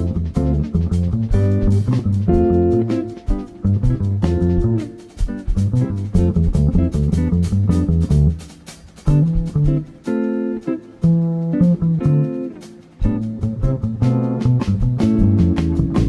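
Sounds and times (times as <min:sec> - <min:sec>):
plucked double bass: 0:00.0 - 0:10.0, 0:11.0 - 0:12.4, 0:13.0 - 0:16.0
drum kit cymbal strokes: 0:00.0 - 0:16.0
electric guitar chords: 0:00.0 - 0:16.0.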